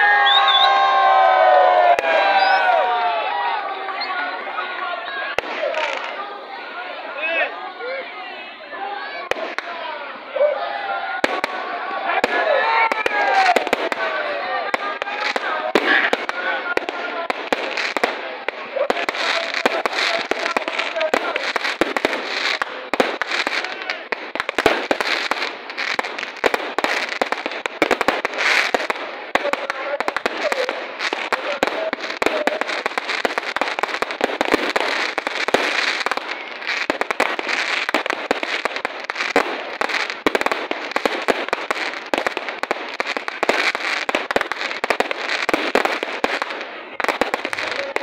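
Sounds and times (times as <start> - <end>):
fireworks crackling and banging: 0.0 - 48.0.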